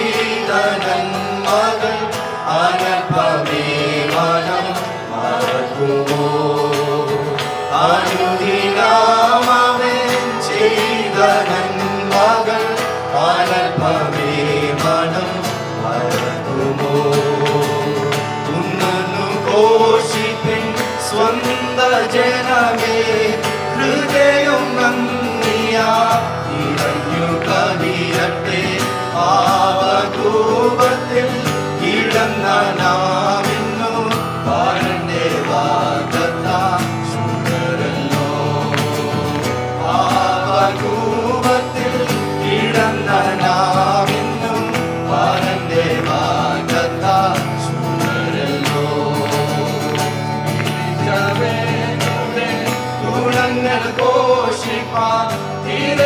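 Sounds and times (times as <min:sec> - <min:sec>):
acoustic guitar: 0:00.0 - 0:56.0
group singing a hymn: 0:00.0 - 0:56.0.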